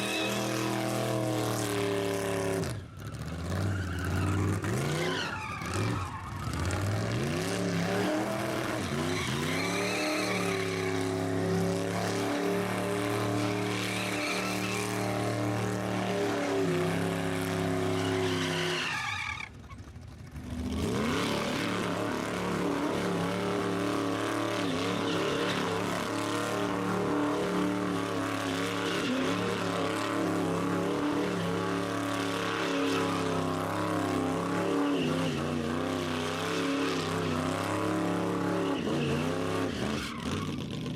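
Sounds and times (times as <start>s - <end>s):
tires spinning and squealing: 0.0s - 40.9s
engine revving high: 5.7s - 18.9s, 20.5s - 40.4s.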